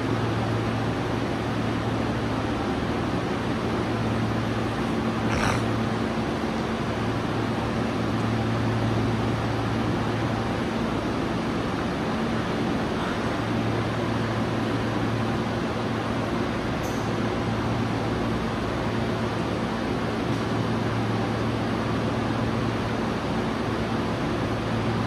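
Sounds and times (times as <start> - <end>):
idling train hum and air noise: 0.0 - 25.0.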